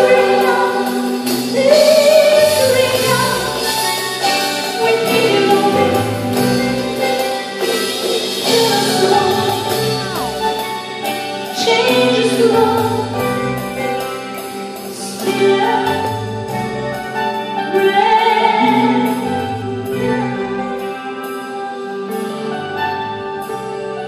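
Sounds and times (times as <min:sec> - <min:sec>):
woman singing into a microphone: 0:00.0 - 0:14.3, 0:14.9 - 0:22.5
live band playing: 0:00.0 - 0:24.0.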